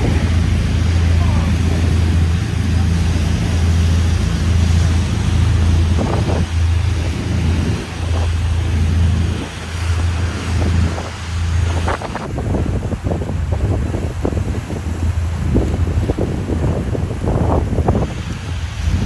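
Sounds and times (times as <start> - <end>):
boat engine humming: 0.0 - 19.0
water rushing: 0.0 - 19.0
wind noise on microphone: 0.0 - 19.0.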